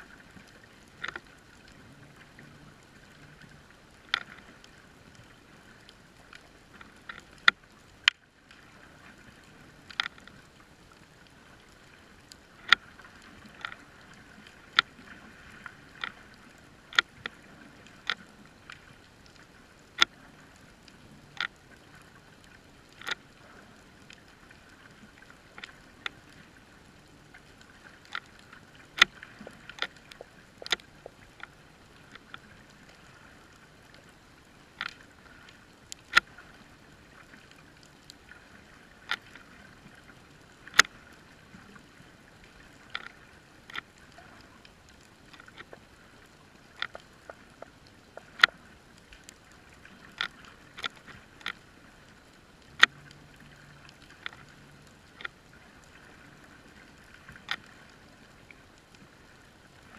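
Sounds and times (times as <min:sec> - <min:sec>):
underwater clicks and snaps: 0:00.1 - 0:08.7, 0:09.3 - 0:34.1, 0:34.7 - 0:36.6, 0:37.2 - 0:59.0.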